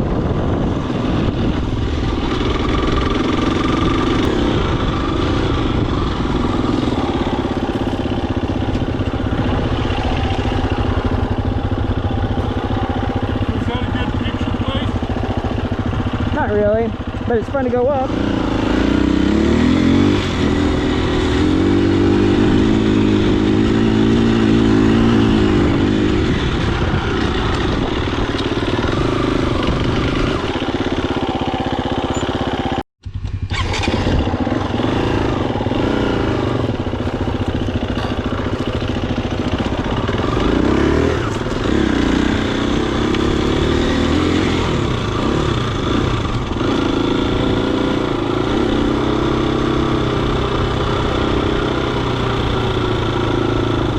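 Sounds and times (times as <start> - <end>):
dirt bike engine revving: 0.1 - 53.9.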